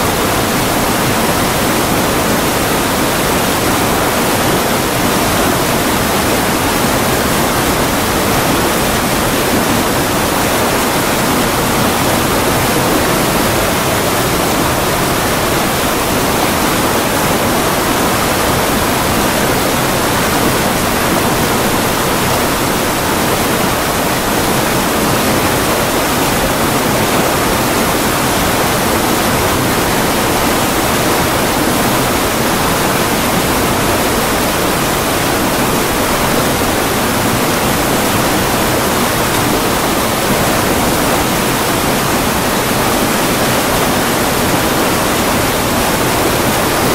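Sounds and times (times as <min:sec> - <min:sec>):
water rushing over weir: 0:00.0 - 0:46.9.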